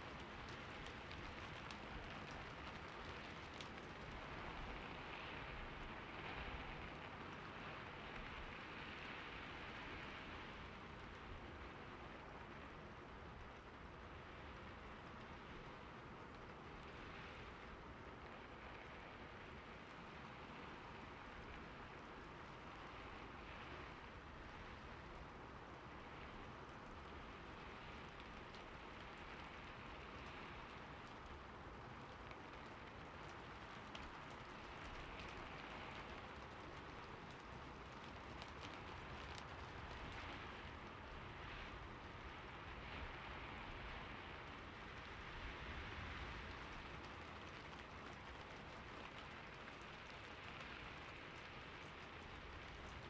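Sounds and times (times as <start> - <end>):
rain falling on a roof: 0.0 - 53.0.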